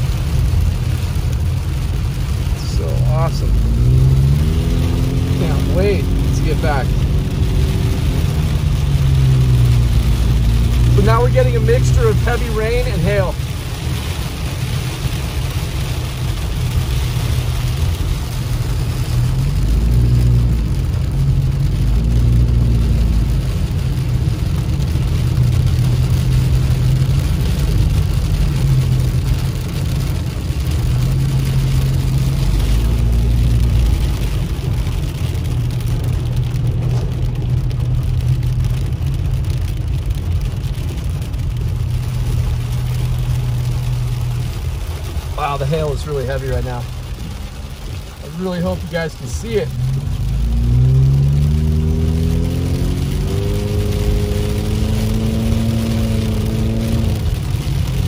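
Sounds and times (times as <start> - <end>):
car engine and tyres rumbling: 0.0 - 58.0
rain and hail pelting car roof: 0.0 - 58.0.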